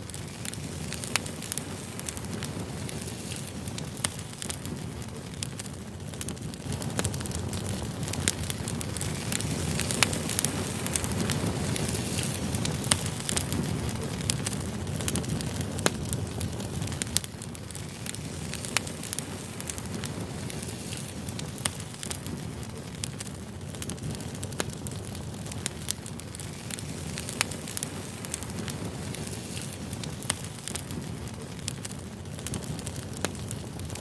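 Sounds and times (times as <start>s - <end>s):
firewood crackling: 0.0s - 34.0s
low rushing of flames: 0.0s - 34.0s
sharp fire pops: 0.0s - 34.0s.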